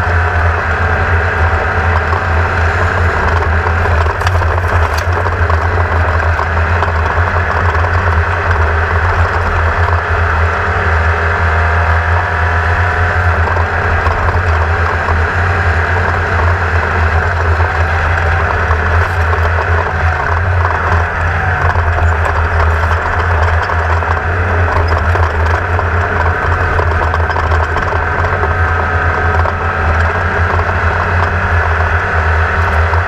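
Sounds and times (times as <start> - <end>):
buggy engine drone: 0.0 - 33.0
rough wind and chassis noise: 0.0 - 33.0.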